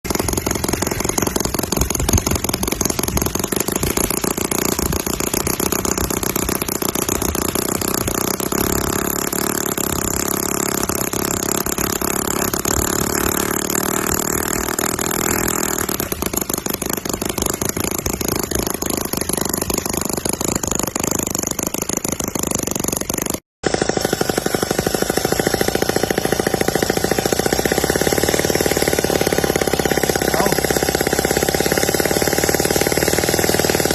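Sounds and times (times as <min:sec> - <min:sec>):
diesel tractor engine knocking: 0:00.0 - 0:33.9.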